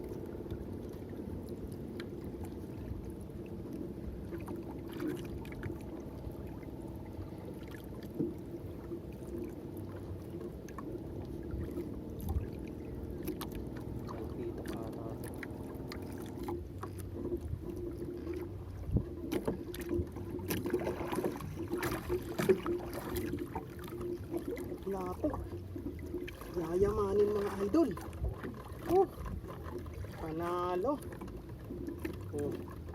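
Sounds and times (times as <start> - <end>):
boat engine low hum: 0.0 - 32.9
water against hull: 0.0 - 32.9
water splashing: 0.0 - 32.9.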